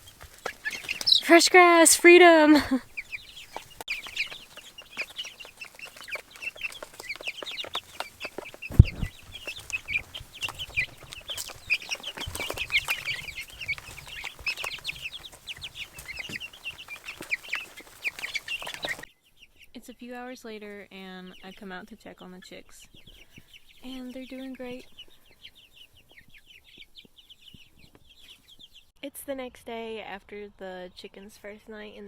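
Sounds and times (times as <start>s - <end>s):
chicks peeping: 0.0s - 28.9s.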